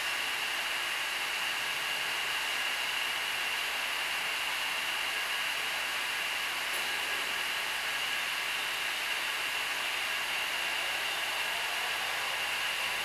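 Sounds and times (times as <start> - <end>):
welding machine hissing and whining: 0.0 - 13.0.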